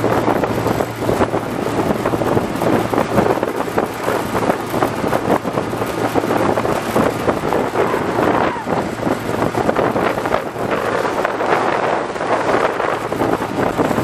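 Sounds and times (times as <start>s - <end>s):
boat engine hum: 0.0s - 14.0s
water rushing past hull: 0.0s - 14.0s
wind buffeting microphone: 0.0s - 14.0s.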